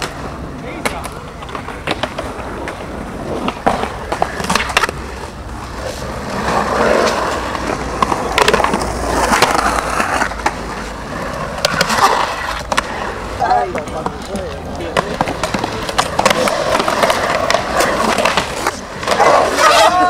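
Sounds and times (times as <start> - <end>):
skateboard clacks: 0.0 - 20.0
skateboard wheels rumbling on concrete: 0.0 - 20.0.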